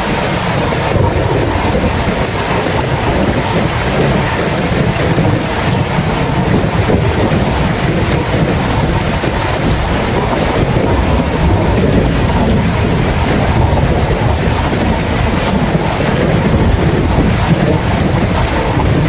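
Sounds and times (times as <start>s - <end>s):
heavy rain: 0.0s - 19.0s
low rumble: 0.0s - 19.0s.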